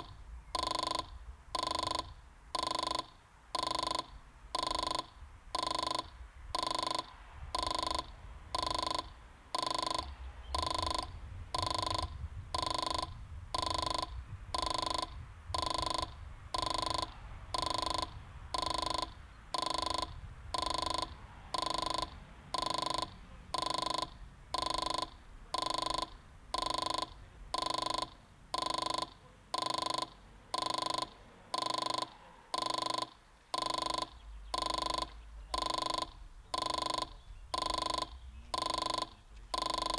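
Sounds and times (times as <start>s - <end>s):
crossing warning bell ringing: 0.0s - 39.9s.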